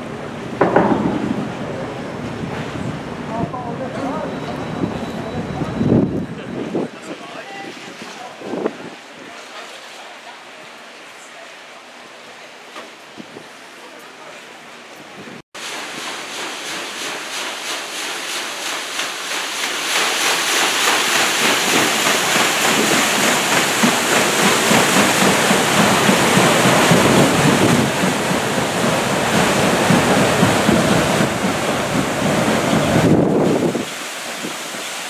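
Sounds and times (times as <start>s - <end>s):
paddle wheels churning water: 0.0s - 35.0s.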